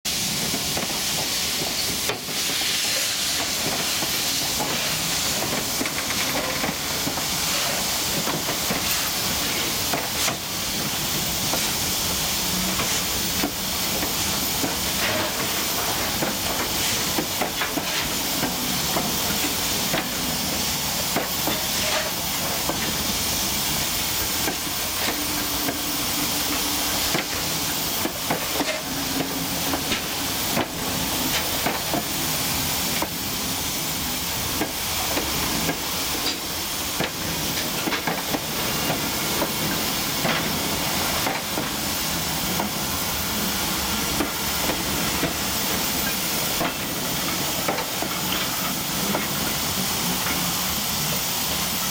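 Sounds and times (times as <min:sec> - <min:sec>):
steam locomotive hissing: 0:00.1 - 0:51.9.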